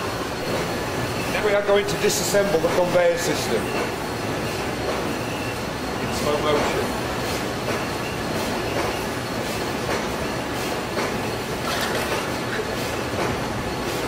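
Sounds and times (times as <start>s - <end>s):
machine running: 0.0s - 14.0s.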